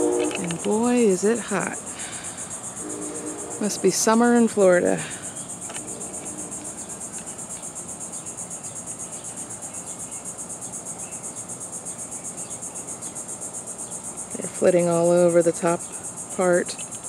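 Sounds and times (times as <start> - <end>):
insects chorus pulsing: 0.0 - 17.0.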